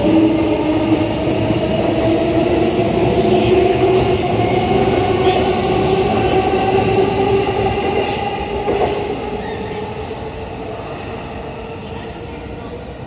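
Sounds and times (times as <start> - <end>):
electric train whine: 0.0 - 13.0.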